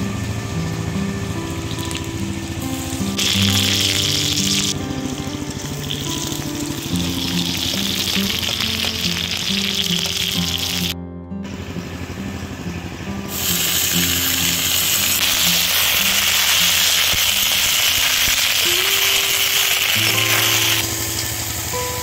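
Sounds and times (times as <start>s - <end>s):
soft background music: 0.0s - 22.0s
food sizzling in hot oil: 1.5s - 11.0s, 13.3s - 22.0s.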